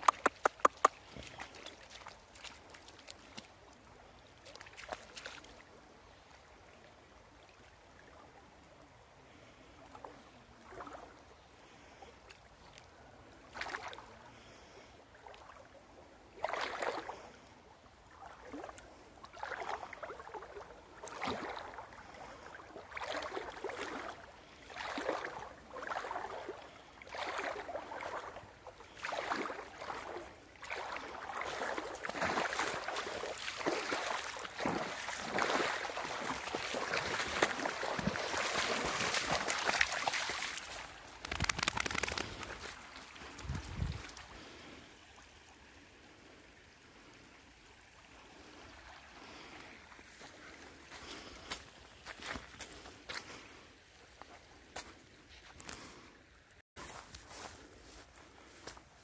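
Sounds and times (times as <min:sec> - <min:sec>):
wading steps in water: 0:00.0 - 0:59.0.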